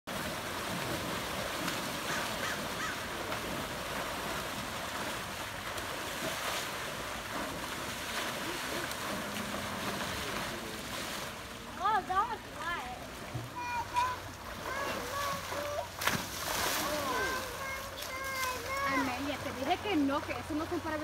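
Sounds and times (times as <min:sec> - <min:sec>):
water splashing and sloshing: 0:00.1 - 0:21.0.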